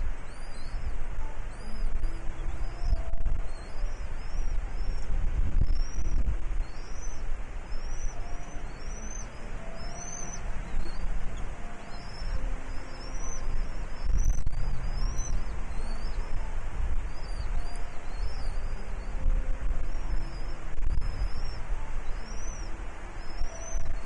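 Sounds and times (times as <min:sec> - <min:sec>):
bird chirping: 0:00.0 - 0:24.0
wind rumble on microphone: 0:00.0 - 0:24.0.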